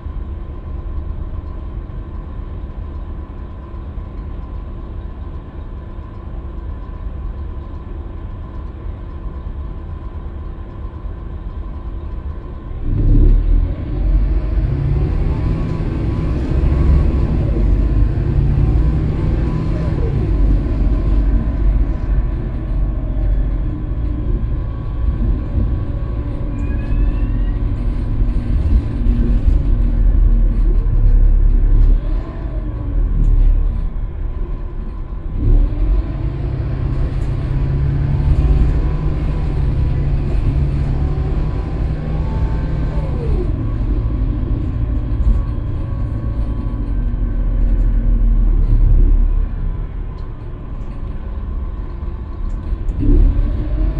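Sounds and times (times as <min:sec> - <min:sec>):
bus engine rumbling: 0:00.0 - 0:53.9.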